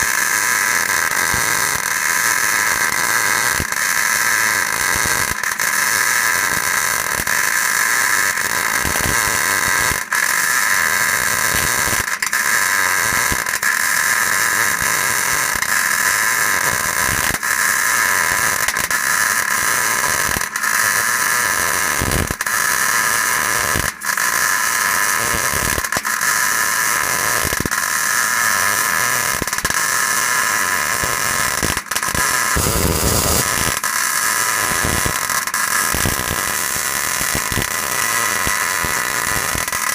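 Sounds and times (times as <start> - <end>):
welder crackling hiss: 0.0 - 39.9.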